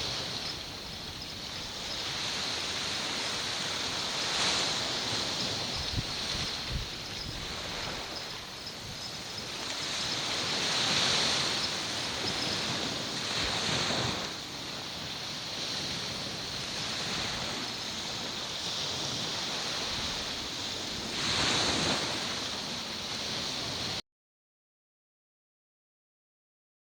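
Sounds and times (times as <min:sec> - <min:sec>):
sea waves washing ashore: 0:00.0 - 0:24.0
wind on microphone: 0:00.0 - 0:24.0.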